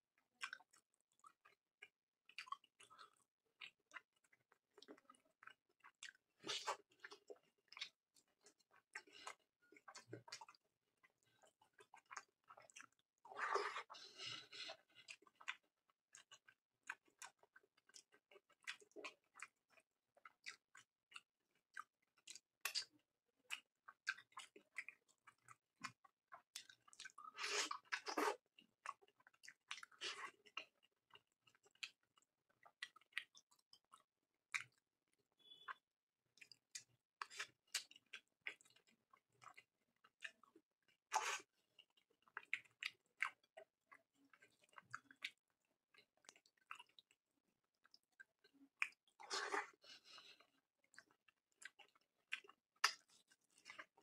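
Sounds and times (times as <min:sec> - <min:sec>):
mouth chewing food: 0:00.2 - 0:54.0.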